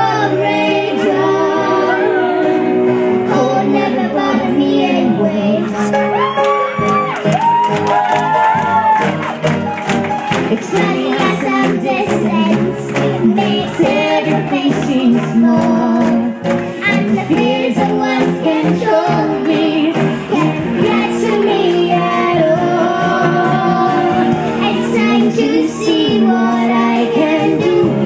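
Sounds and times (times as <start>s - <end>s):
girl singing into microphone: 0.0s - 5.9s, 10.4s - 28.0s
instrumental backing music: 0.0s - 28.0s.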